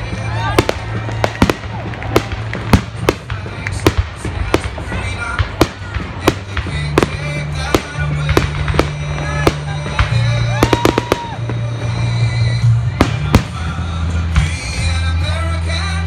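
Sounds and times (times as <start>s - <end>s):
fireworks bursting with sharp bangs: 0.0s - 15.3s
music playing: 0.0s - 16.0s.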